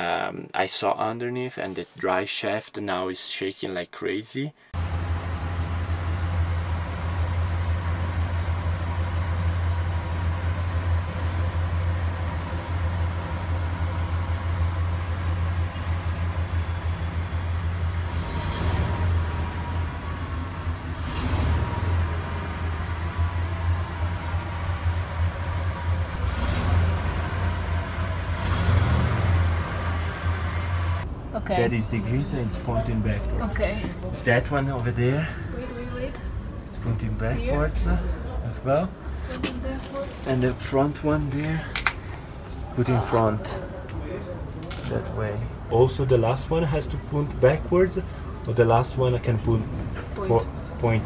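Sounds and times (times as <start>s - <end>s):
truck engine humming: 4.8s - 51.0s.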